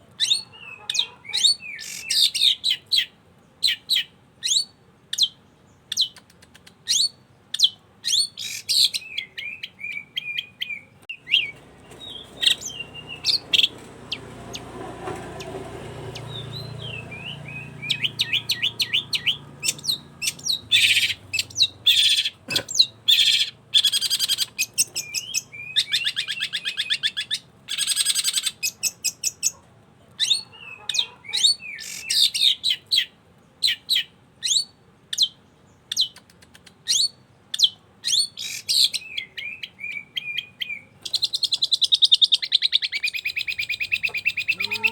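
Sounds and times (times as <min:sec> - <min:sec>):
bird chirping and whistling: 0:00.2 - 0:06.2, 0:06.8 - 0:14.2, 0:16.1 - 0:29.5, 0:30.2 - 0:35.3, 0:36.8 - 0:44.9.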